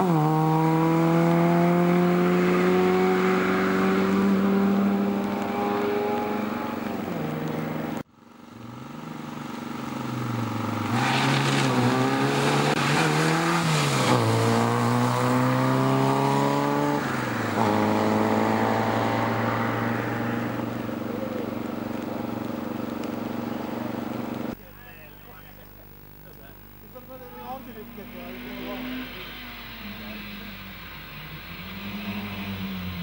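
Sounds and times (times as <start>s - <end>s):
rally car engine accelerating: 0.0s - 24.6s, 27.6s - 33.0s.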